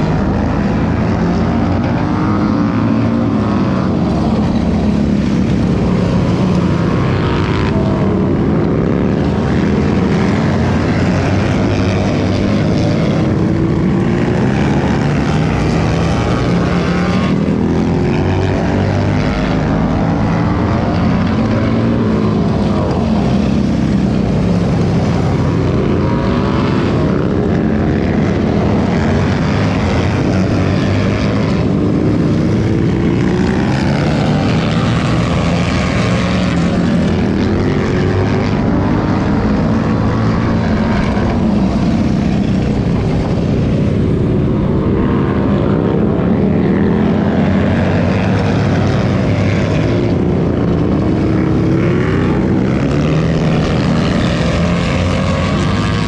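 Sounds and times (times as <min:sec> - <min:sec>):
racing motorcycle engines revving: 0:00.0 - 0:56.0.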